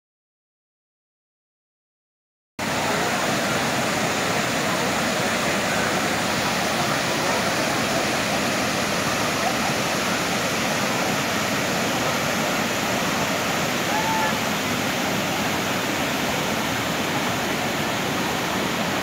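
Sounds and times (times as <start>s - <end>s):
waterfall rushing into pool: 2.6s - 19.0s.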